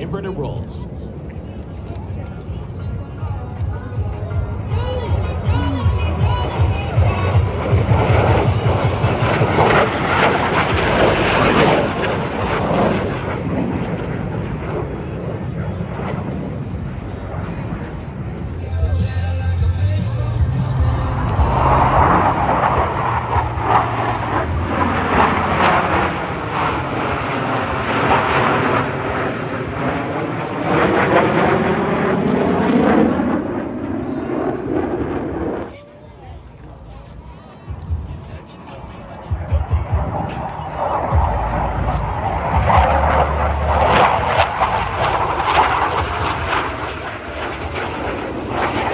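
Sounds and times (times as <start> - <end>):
airplane engine passing: 0.0 - 48.9.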